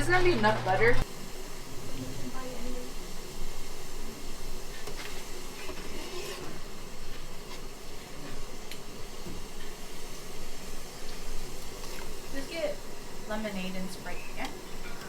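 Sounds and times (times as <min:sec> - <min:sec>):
pot boiling and bubbling: 0:00.0 - 0:15.0.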